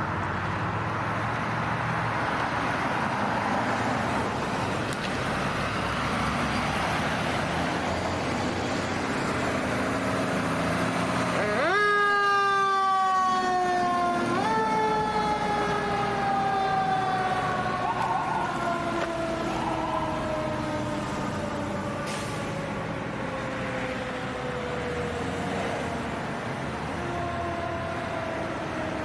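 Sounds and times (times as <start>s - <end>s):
traffic and engine noise: 0.0s - 29.0s
emergency vehicle siren wailing: 1.6s - 29.0s.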